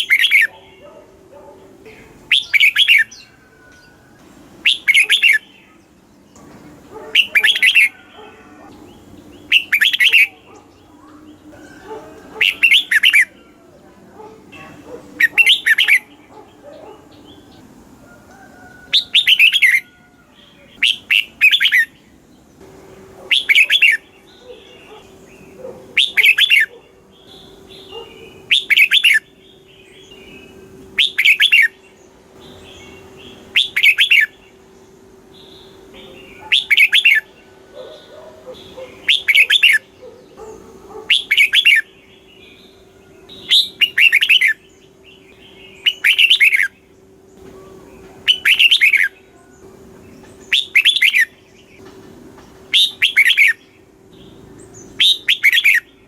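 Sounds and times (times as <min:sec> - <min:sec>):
bird singing warbling phrases: 0:00.0 - 0:56.0
faint steady hum: 0:00.0 - 0:56.0.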